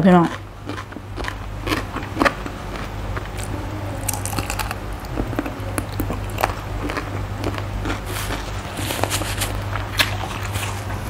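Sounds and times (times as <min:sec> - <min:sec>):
biting and chewing chicken feet: 0:00.1 - 0:11.0.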